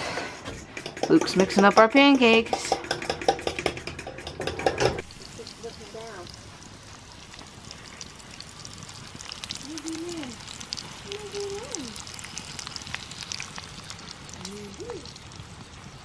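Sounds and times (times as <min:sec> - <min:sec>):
food sizzling in skillets: 0:00.9 - 0:16.0.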